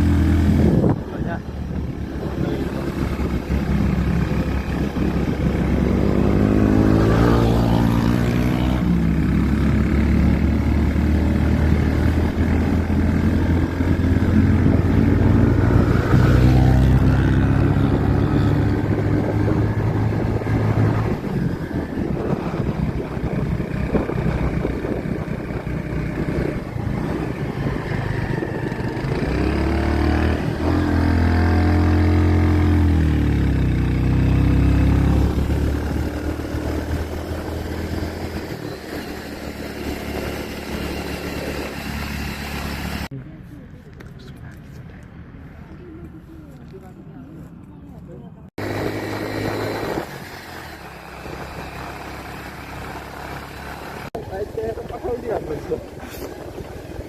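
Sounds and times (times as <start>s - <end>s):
motorcycle engine revving: 0.0s - 43.1s, 48.5s - 57.0s.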